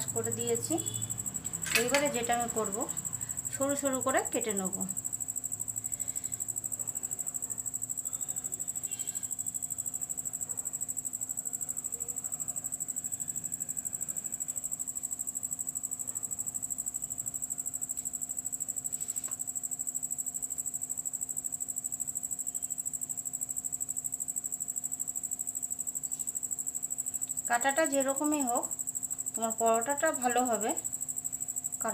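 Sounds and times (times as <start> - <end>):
cricket trilling: 0.0 - 31.9.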